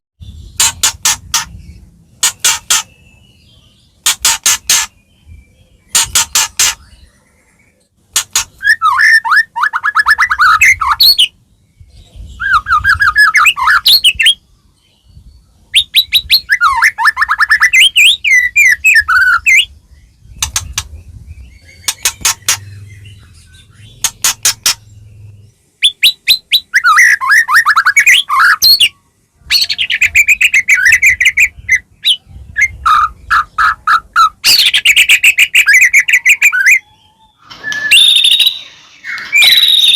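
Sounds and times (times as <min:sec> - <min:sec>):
songbird singing loudly: 0:00.2 - 0:39.9.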